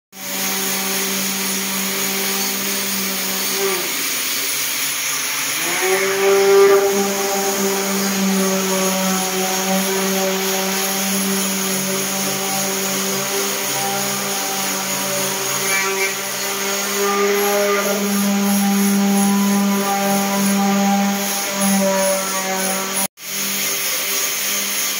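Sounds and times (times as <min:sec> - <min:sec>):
orbital sander sanding panels: 0:00.2 - 0:24.9.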